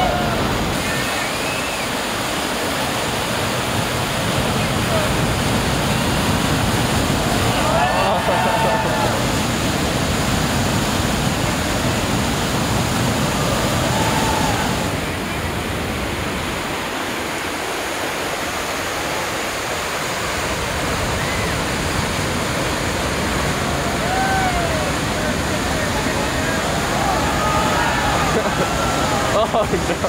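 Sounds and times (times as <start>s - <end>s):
whitewater rushing: 0.0s - 30.0s.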